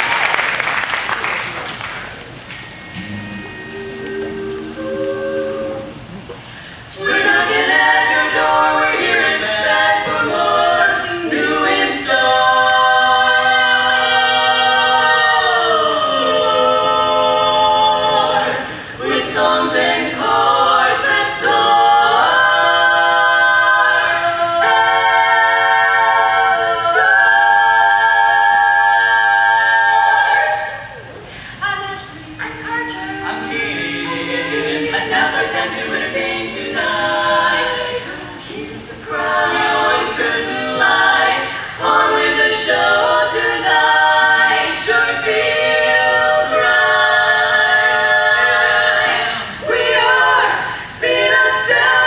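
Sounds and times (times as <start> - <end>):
women singing a cappella in harmony: 3.4 - 52.0.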